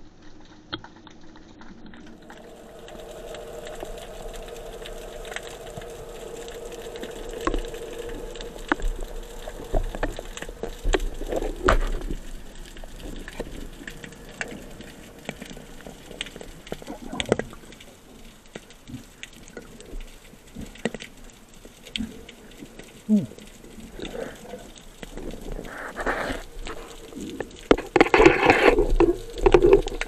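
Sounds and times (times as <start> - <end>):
muffled underwater water wash: 0.0 - 30.0.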